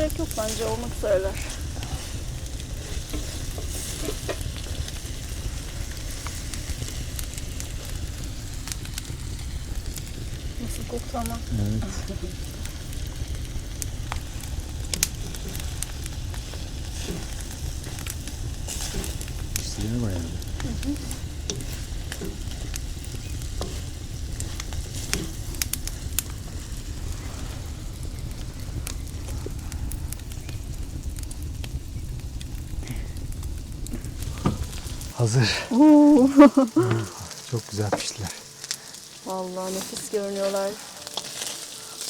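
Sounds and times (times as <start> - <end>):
burning wood crackling: 0.0 - 42.0
food sizzling: 0.0 - 42.0.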